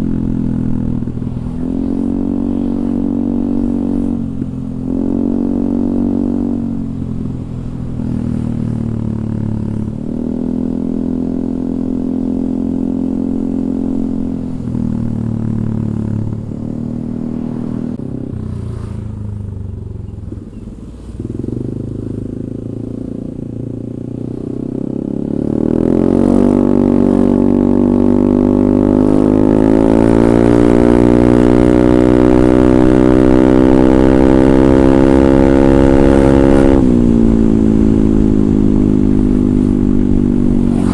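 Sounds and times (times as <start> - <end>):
scooter engine revving: 0.0 - 40.9.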